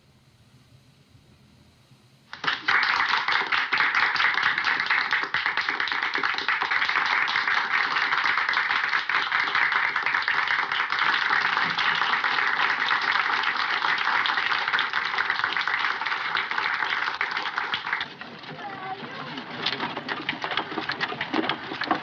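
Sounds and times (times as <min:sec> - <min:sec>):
audience applause: 0:02.3 - 0:22.0.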